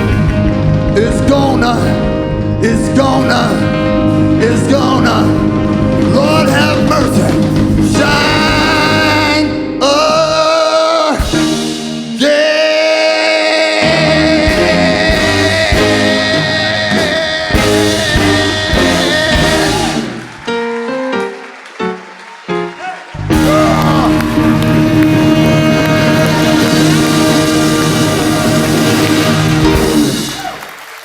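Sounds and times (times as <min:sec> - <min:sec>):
live band with guitar: 0:00.0 - 0:31.0
man singing long notes: 0:00.9 - 0:20.3, 0:23.2 - 0:30.2.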